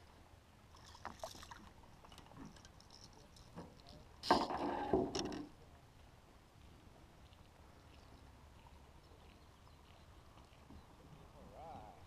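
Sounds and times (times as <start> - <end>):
faint water splashing: 0.0 - 4.8, 5.5 - 12.0.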